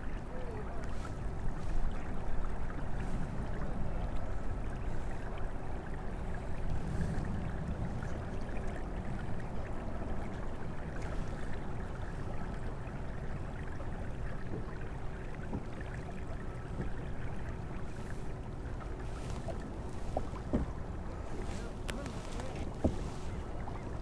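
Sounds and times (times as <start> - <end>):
water swishing along kayak hull: 0.0 - 24.0.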